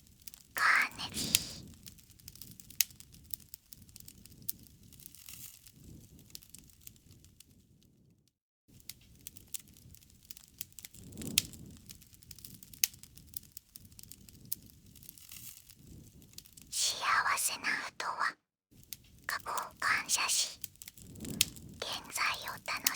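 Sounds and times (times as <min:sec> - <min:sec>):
bonfire crackling: 0:00.0 - 0:07.4, 0:08.8 - 0:22.9.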